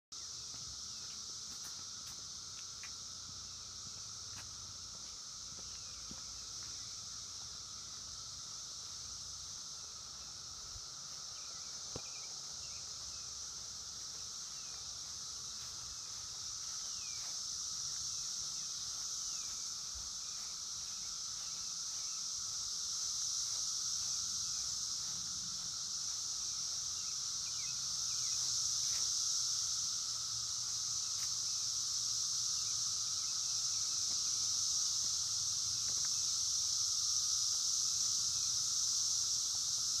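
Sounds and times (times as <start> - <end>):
cicadas high-pitched drone: 0.1 - 40.0.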